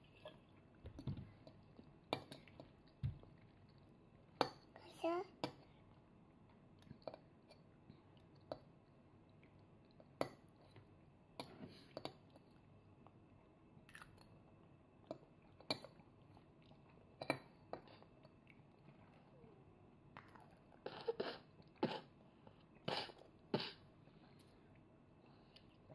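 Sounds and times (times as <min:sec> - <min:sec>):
soft chewing: 0:00.0 - 0:25.9.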